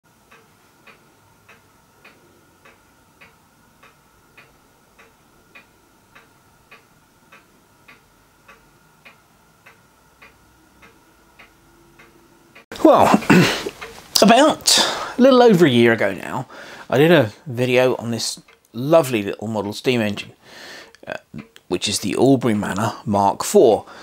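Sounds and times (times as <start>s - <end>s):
clock ticking: 0.1s - 23.9s
faint high hum: 0.1s - 24.0s.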